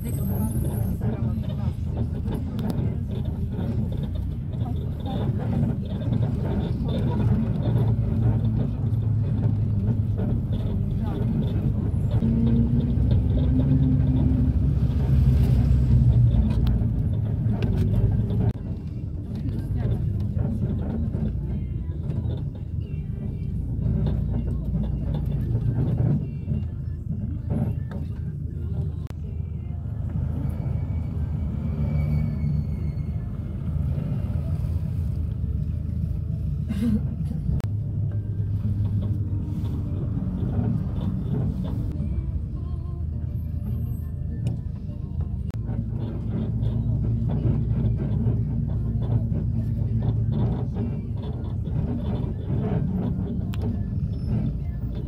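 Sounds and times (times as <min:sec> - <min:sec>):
vehicle engine and tyre noise: 0:00.0 - 0:55.0.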